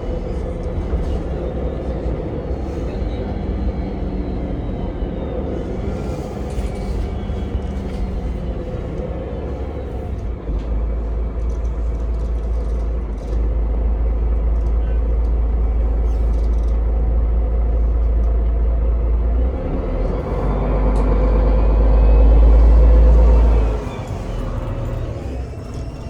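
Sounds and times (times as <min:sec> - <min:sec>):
vehicle running gear rumble: 0:00.0 - 0:26.0.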